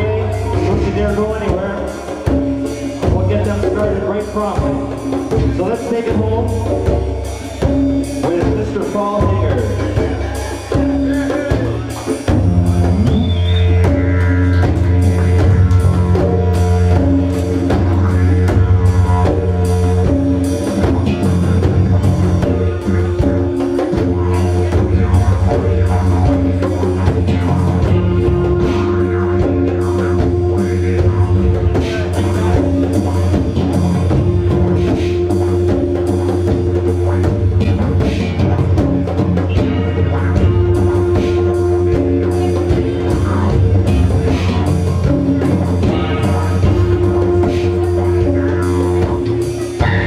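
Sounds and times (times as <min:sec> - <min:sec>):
conga drums and hand percussion: 0:00.0 - 0:50.0
didgeridoo droning: 0:00.0 - 0:50.0
electric guitar: 0:06.6 - 0:50.0.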